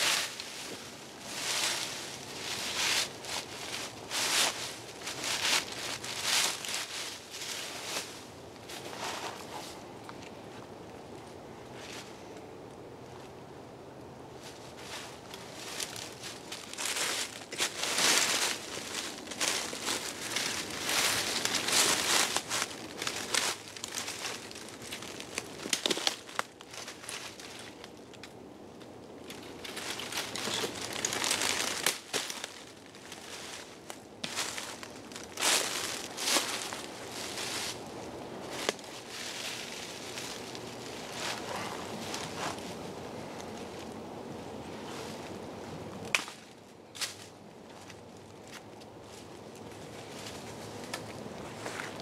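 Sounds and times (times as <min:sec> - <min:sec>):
dry leaves rustling and crunching: 0:00.0 - 0:09.9, 0:14.3 - 0:52.0.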